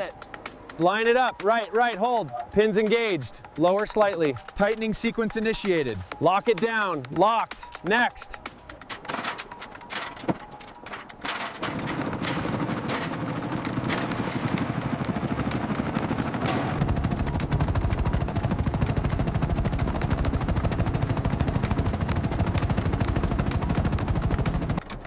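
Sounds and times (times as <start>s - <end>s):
helicopter rotor chop: 0.0s - 25.0s.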